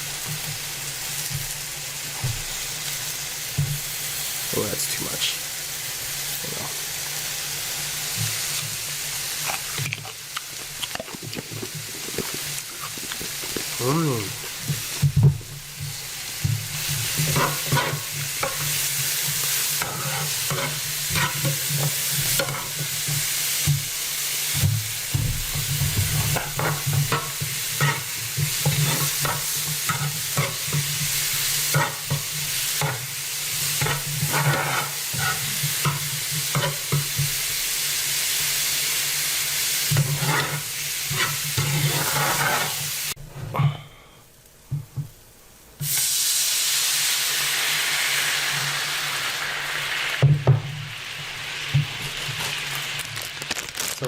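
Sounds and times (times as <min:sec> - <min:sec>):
food sizzling in oil: 0:00.0 - 0:43.3, 0:44.4 - 0:54.0.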